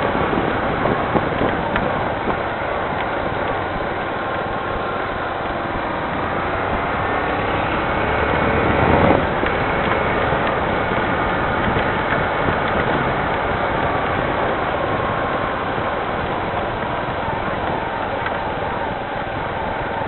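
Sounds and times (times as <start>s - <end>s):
steady rain falling: 0.0s - 20.0s
vehicle passing: 0.0s - 20.0s.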